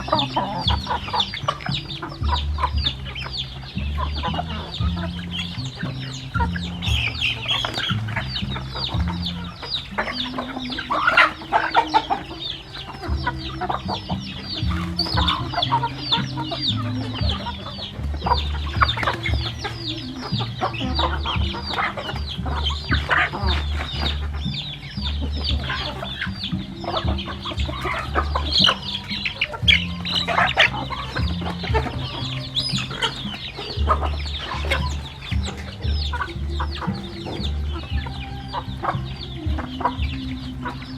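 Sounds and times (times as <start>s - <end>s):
background music bass line: 0.0s - 40.9s
chickens clucking: 0.0s - 40.9s.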